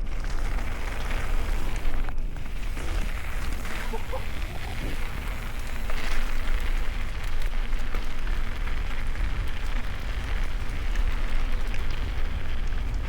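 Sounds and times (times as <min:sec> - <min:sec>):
clicks and crackles: 0:00.0 - 0:13.0
rushing noise with deep rumble: 0:00.0 - 0:13.0.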